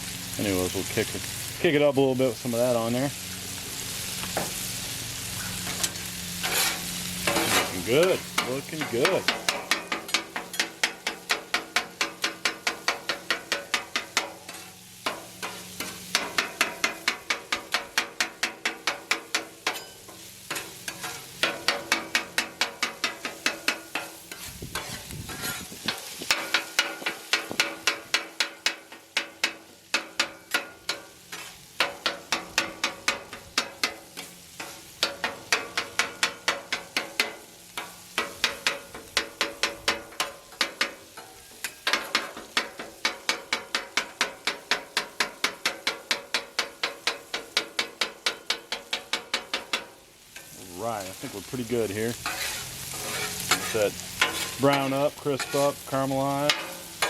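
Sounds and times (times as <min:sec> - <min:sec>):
meat sizzling: 0:00.0 - 0:57.0
metal spatulas clacking on griddle: 0:05.5 - 0:51.1, 0:52.2 - 0:57.0.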